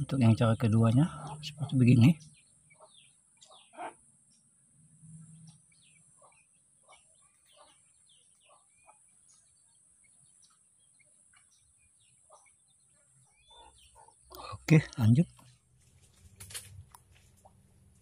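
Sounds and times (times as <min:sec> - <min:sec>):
faint bird chirps: 0:00.0 - 0:15.5.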